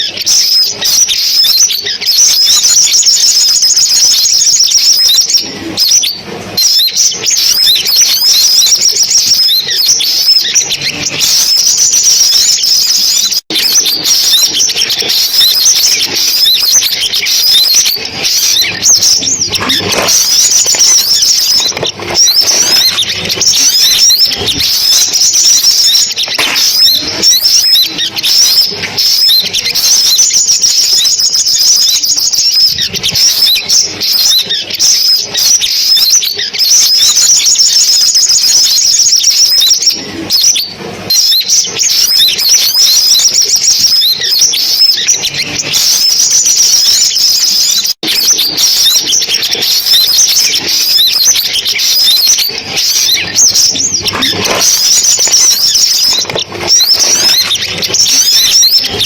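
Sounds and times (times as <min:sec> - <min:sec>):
birds singing rapid chirps and trills: 0:00.0 - 0:59.0.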